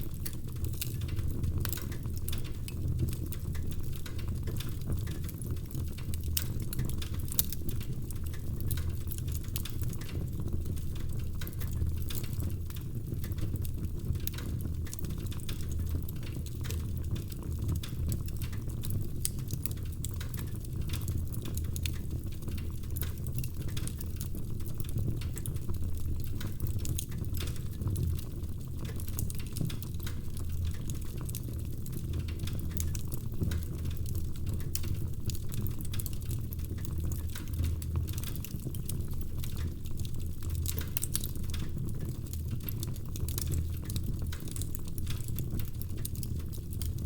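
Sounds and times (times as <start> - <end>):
logs crackling and popping: 0.0 - 47.0
low rumble of flames: 0.0 - 47.0.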